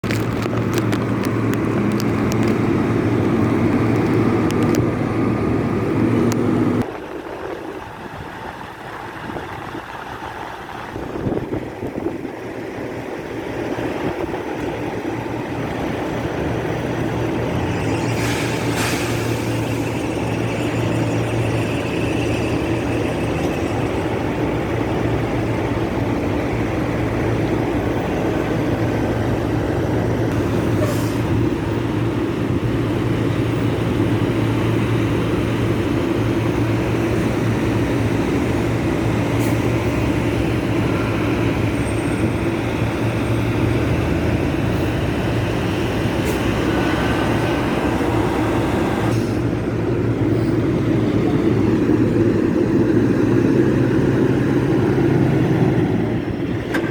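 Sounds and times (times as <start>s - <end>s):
heavy trucks idling: 0.0s - 56.9s.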